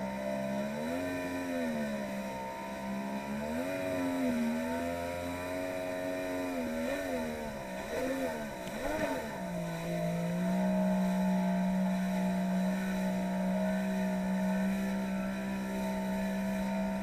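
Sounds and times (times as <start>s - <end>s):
personal watercraft engine running: 0.0s - 17.0s.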